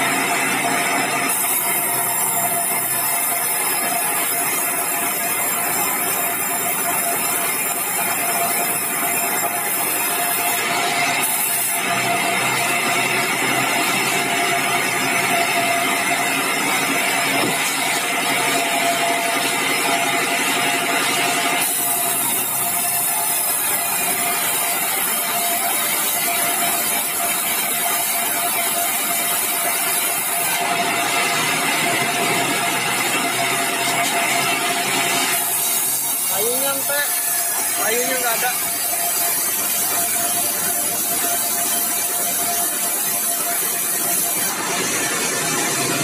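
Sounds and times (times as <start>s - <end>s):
sawmill saw running: 0.0s - 46.0s.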